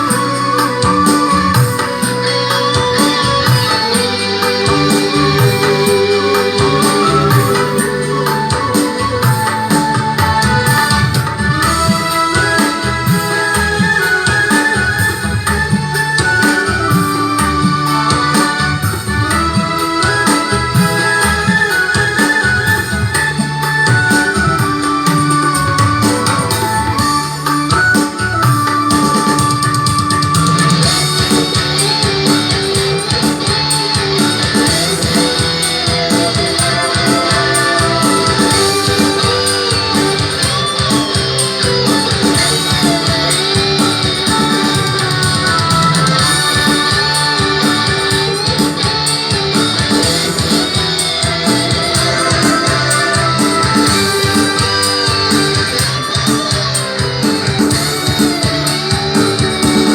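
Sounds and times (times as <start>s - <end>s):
music through a loudspeaker: 0.0s - 59.9s.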